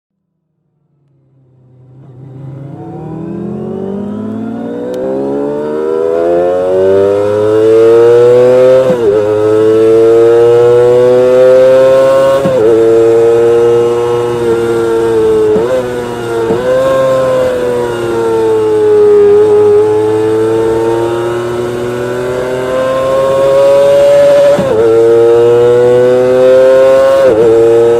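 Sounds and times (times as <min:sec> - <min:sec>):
motorcycle engine revving high: 0:01.2 - 0:27.9.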